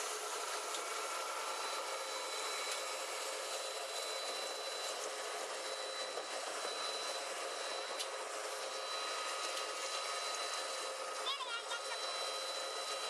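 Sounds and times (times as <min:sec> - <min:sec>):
faint whining tones: 0:00.0 - 0:13.0.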